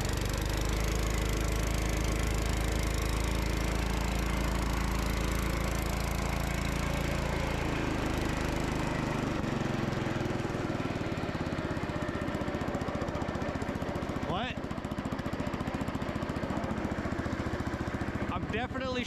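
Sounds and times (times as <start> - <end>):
snow blower engine running: 0.0 - 19.0.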